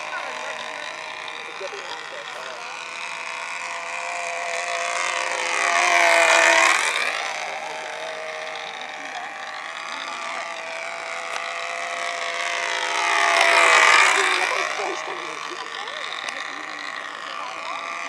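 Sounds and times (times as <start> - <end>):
model airplane engine buzzing: 0.0 - 18.0.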